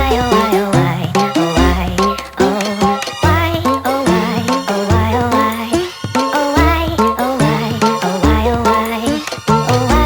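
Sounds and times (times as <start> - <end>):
rhythmic music with wavering melody: 0.0 - 10.0.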